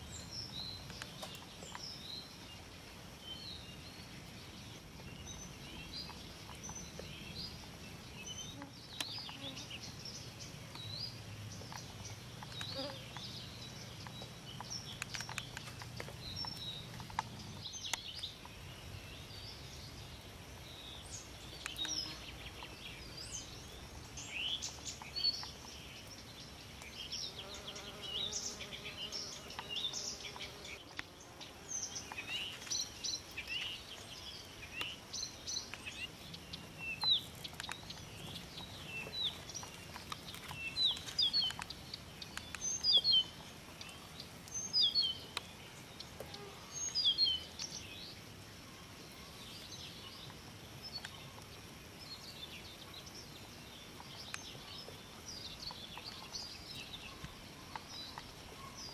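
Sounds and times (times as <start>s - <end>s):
songbirds chirping and whistling: 0.0s - 58.9s.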